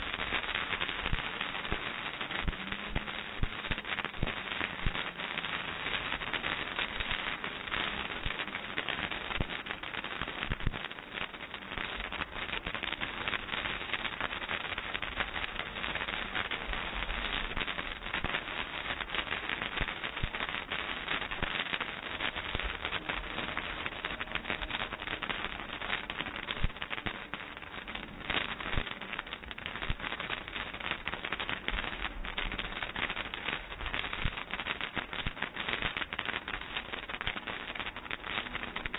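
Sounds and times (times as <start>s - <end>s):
firework crackling: 0.0s - 38.9s
firework pops: 0.0s - 38.9s.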